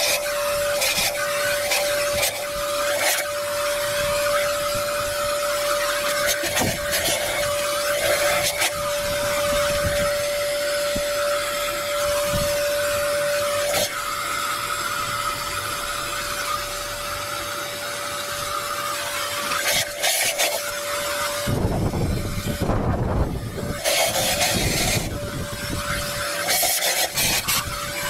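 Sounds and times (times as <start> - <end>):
shop vacuum whining: 0.0 - 28.0.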